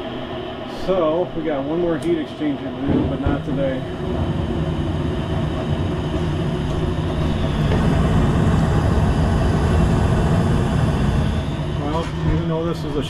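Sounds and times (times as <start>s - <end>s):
low mechanical motor rumble: 0.0s - 13.0s.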